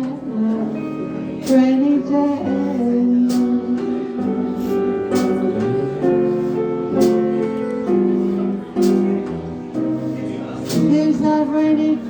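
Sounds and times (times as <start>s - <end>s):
person singing: 0.0s - 8.8s, 10.6s - 12.0s
jazz guitar: 0.0s - 12.0s
piano: 0.0s - 12.0s.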